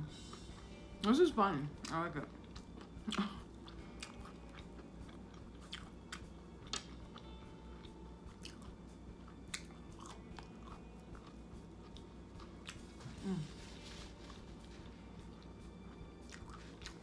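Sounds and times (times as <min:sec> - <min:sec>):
person chewing crunchy food: 0:01.8 - 0:17.0.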